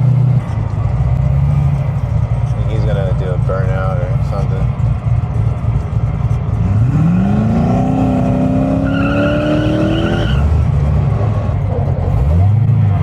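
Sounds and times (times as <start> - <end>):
car engine revving: 0.0 - 13.0
low engine rumble: 0.0 - 13.0.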